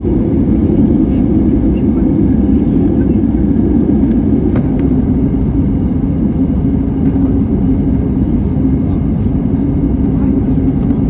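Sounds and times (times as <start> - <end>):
airplane cabin roar: 0.0 - 11.0.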